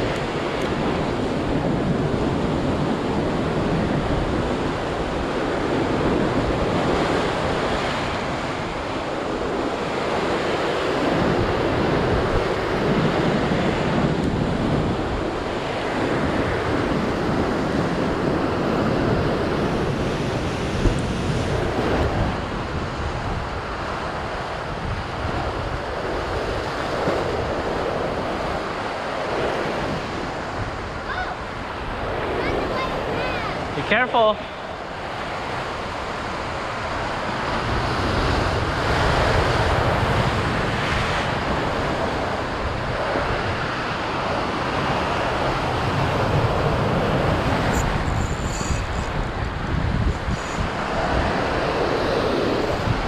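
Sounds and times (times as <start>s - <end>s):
surf breaking over rocks: 0.0s - 53.0s
wind on microphone: 0.0s - 53.0s.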